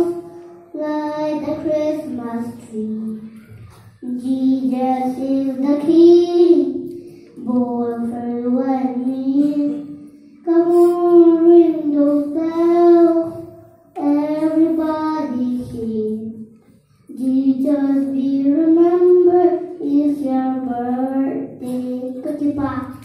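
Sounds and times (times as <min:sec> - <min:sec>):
boy singing into microphone: 0:00.0 - 0:16.4, 0:17.1 - 0:23.0.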